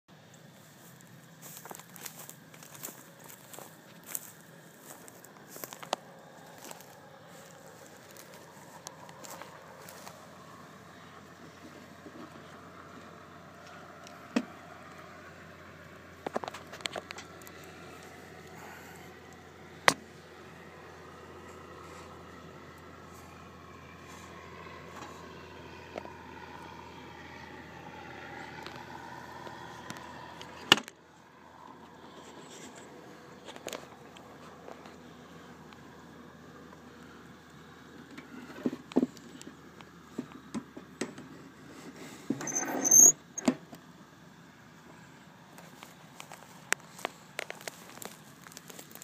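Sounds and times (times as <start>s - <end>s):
steady low hum: 0.1s - 42.4s
faint outdoor noise: 0.1s - 49.0s.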